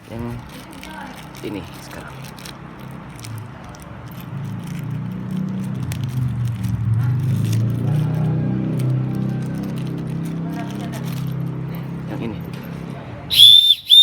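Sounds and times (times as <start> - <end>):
plastic packaging crackling: 0.0 - 11.6
engine rumble: 0.0 - 14.0.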